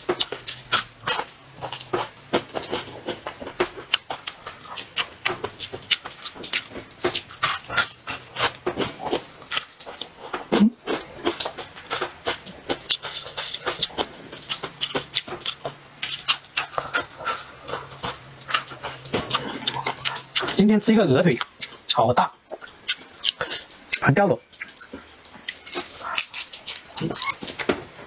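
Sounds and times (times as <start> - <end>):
chewing and crunching fried food: 0.0 - 28.0.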